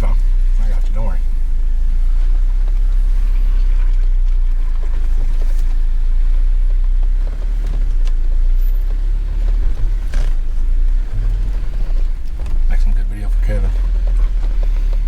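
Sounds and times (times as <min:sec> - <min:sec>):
engine rumbling at low revs: 0:00.0 - 0:15.0.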